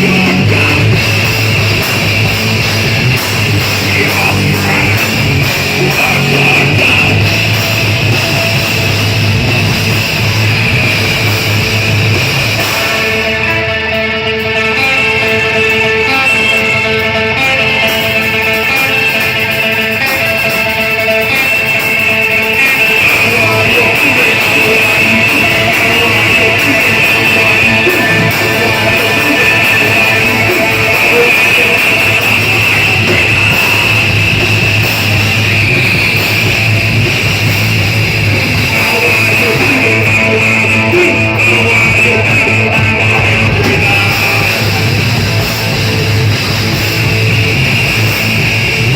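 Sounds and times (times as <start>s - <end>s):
band playing live: 0.0s - 48.9s
electric guitar ringing chords: 0.0s - 48.9s.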